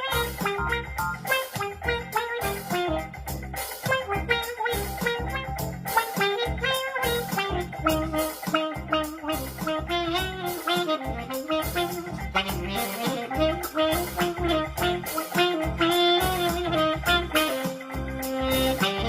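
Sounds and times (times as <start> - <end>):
quacky wah-wah lead melody: 0.0 - 19.0
steady drum beat: 0.0 - 19.0.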